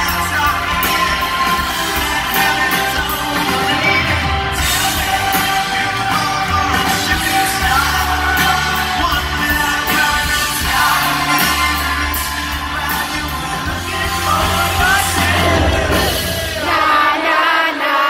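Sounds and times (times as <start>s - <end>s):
live rock band playing: 0.0s - 17.6s
drums: 0.0s - 18.0s
man singing into microphone: 0.0s - 18.0s.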